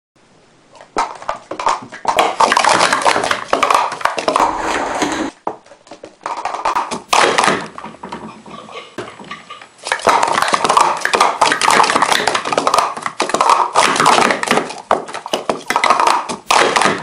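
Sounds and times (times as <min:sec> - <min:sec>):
plastic cups clattering: 0:01.0 - 0:04.7, 0:06.0 - 0:17.0.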